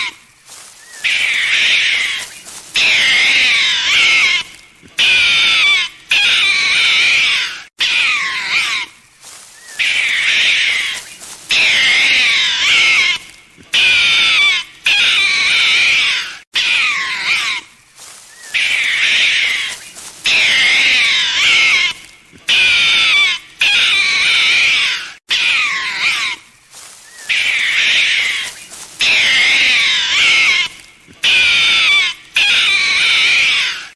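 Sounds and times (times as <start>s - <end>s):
raccoon squealing: 0.0s - 33.9s.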